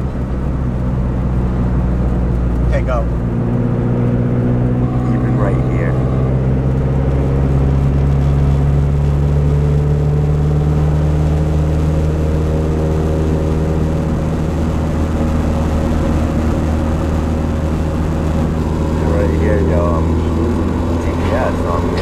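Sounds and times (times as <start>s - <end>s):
car engine drone: 0.0s - 22.0s
road rumble: 0.0s - 22.0s.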